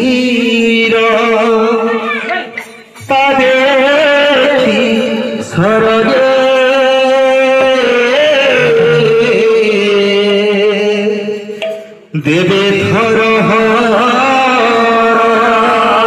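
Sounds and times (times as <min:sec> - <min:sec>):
man chanting devotional song: 0:00.0 - 0:16.0.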